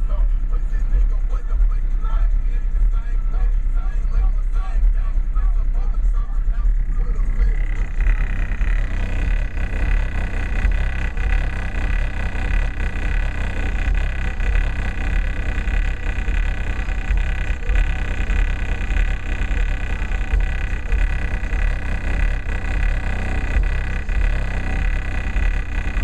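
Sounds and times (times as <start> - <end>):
loud rap music on subwoofers: 0.0 - 26.0.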